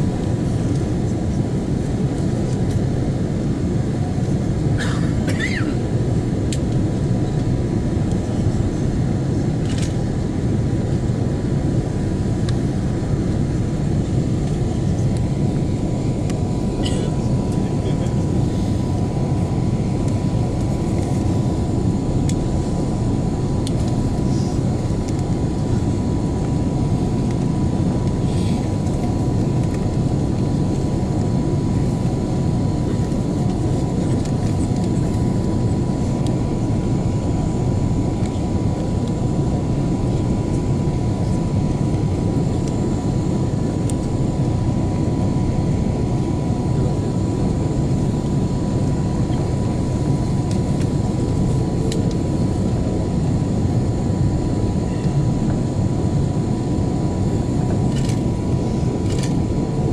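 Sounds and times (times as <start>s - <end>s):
airliner cabin engine rush: 0.0s - 59.9s.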